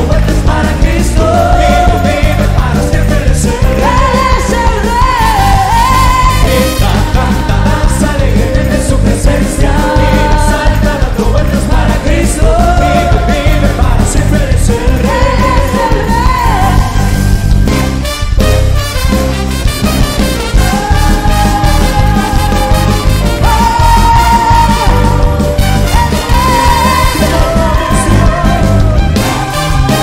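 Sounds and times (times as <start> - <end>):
voices singing: 0.0 - 17.2, 20.5 - 30.0
band with driving bass beat: 0.0 - 30.0.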